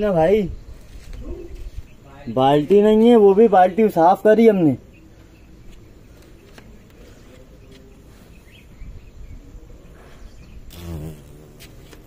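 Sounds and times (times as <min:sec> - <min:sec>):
faint bird chirp: 0:00.2 - 0:12.0.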